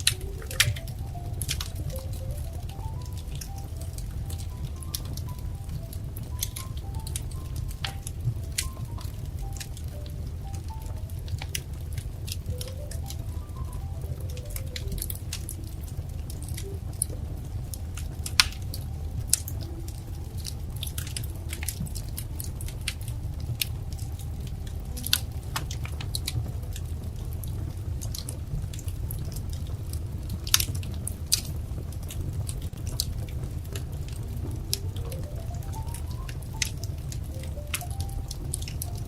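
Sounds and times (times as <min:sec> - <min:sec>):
low fire rumble: 0:00.0 - 0:39.0
wood fire crackling: 0:00.0 - 0:39.0.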